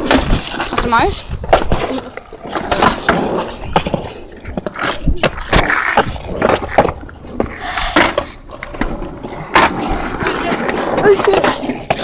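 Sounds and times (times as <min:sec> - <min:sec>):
skateboard clacks: 0:00.0 - 0:12.0
skateboard wheels rolling: 0:00.0 - 0:12.0.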